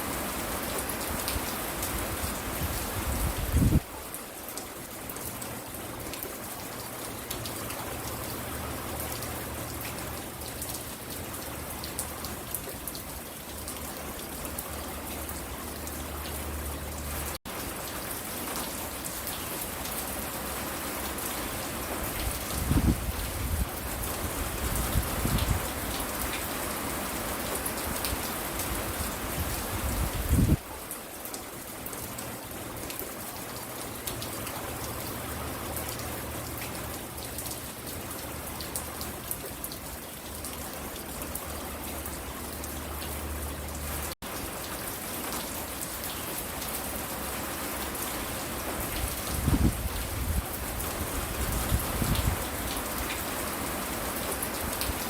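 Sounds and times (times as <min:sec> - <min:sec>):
rain pattering on a porch: 0:00.0 - 0:55.0.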